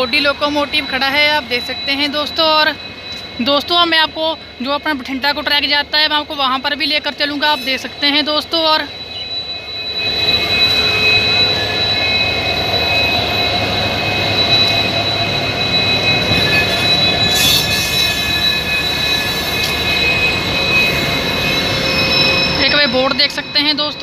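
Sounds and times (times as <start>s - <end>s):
high-pitched whine: 0.0s - 24.0s.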